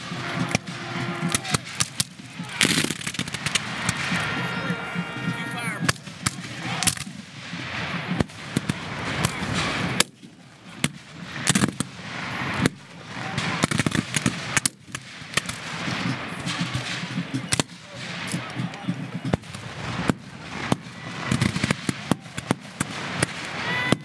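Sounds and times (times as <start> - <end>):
muskets firing: 0.0 - 24.0.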